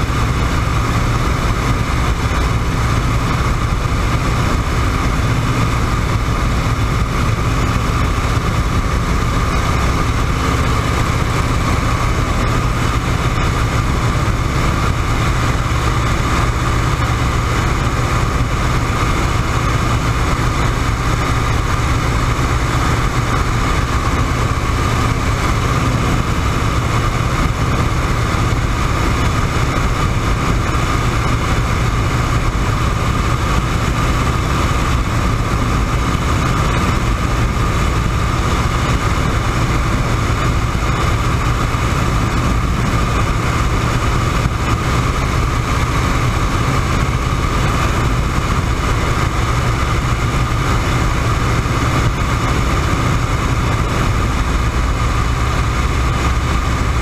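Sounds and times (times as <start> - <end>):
propeller plane engine in flight: 0.0 - 57.0.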